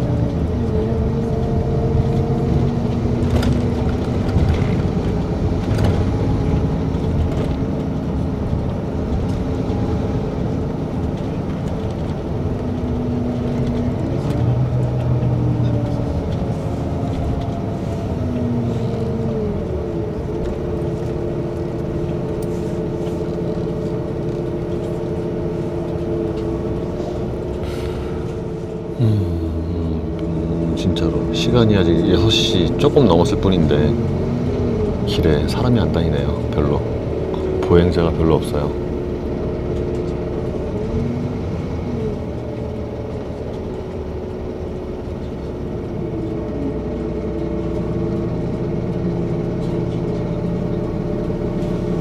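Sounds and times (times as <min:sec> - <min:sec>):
bus engine drone: 0:00.0 - 0:52.0
road rumble: 0:00.0 - 0:52.0.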